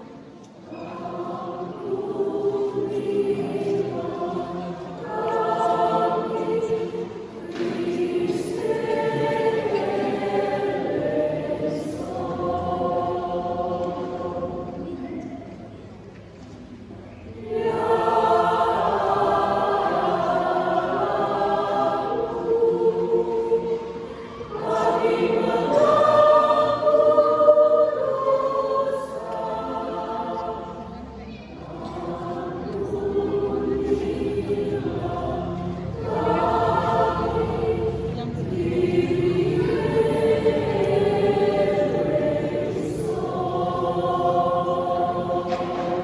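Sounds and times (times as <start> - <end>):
church choir singing in harmony: 0.0 - 16.5, 17.1 - 46.0.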